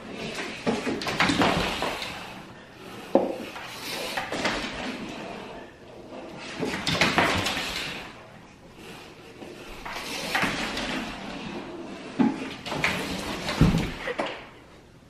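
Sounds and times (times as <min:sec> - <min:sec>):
toy dragged across floor: 0:00.0 - 0:14.5.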